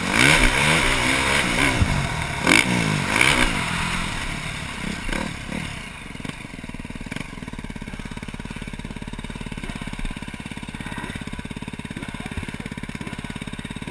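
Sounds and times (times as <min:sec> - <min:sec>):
engine throttle blips: 0:00.0 - 0:13.9
motorcycle engine idling: 0:00.0 - 0:13.9.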